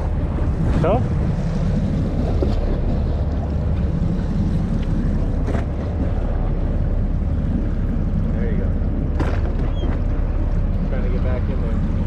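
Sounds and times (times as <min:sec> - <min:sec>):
boat engine rumbling: 0:00.0 - 0:12.0
sea noise: 0:00.0 - 0:12.0
wind buffeting microphone: 0:00.0 - 0:12.0.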